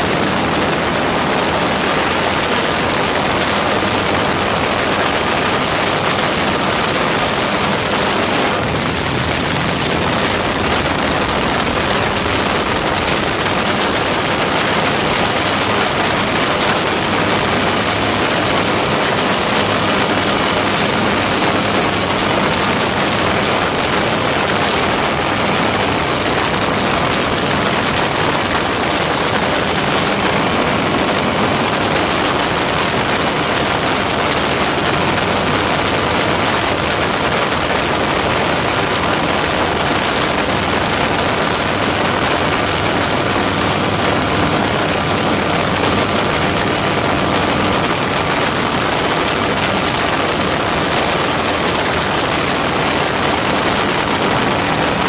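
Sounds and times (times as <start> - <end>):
aircraft engine running: 0.0 - 55.0
wind rush on microphone: 0.0 - 55.0.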